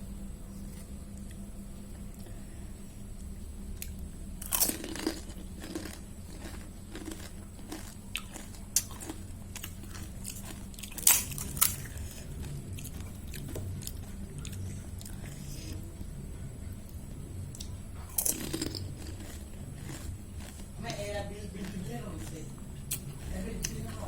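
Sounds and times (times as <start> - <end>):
crunching and chewing crisp food: 0.5 - 24.0.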